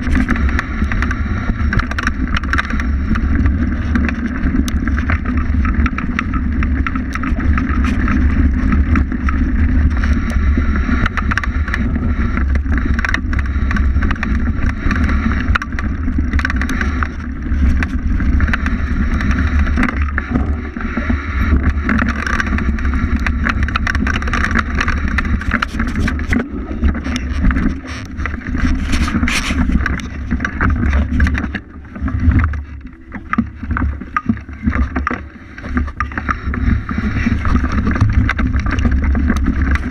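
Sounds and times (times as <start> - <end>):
bike rattling over bumps: 0.0 - 39.9
bike tyres rumbling over dirt: 0.0 - 39.9
wind buffeting microphone: 0.0 - 39.9.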